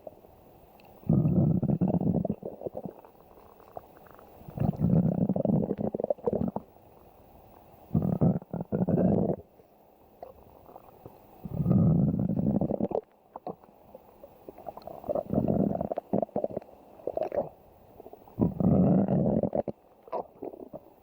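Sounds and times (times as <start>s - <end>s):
stomach growling: 0.8s - 6.8s, 7.8s - 9.6s, 10.2s - 21.0s.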